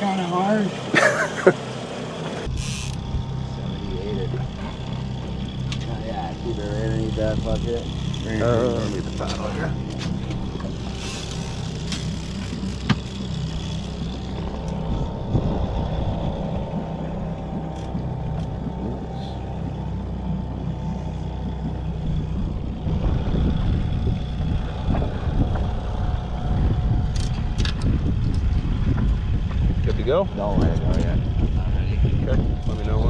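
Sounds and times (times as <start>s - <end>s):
boat motor droning: 0.0s - 33.0s
wind buffeting microphone: 2.4s - 33.0s.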